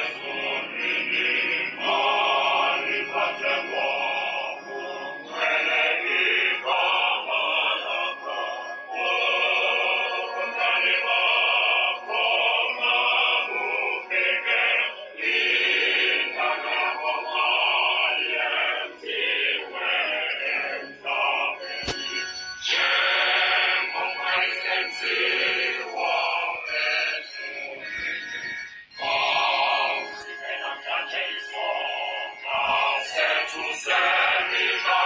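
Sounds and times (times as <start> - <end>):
group singing a hymn: 0.0 - 28.1, 29.0 - 35.0.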